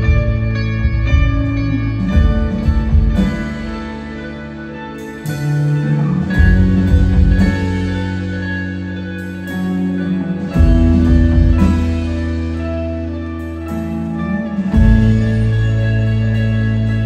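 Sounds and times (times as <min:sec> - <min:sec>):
post-rock band playing: 0:00.0 - 0:17.0.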